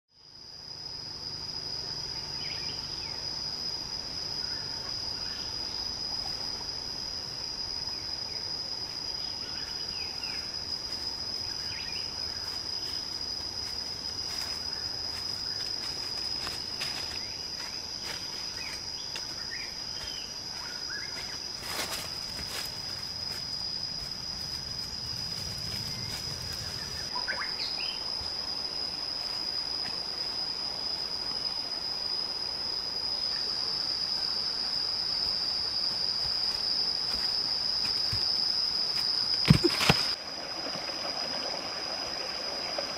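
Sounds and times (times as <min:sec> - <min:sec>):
high-pitched insect drone: 0:00.2 - 0:42.9.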